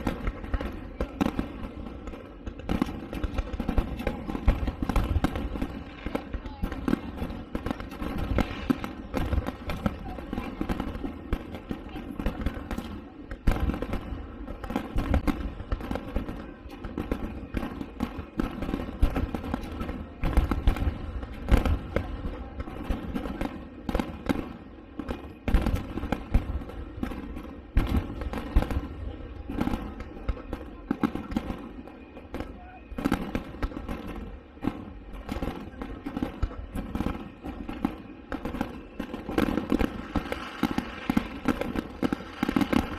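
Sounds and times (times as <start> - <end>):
fireworks booming and crackling: 0.0 - 42.9.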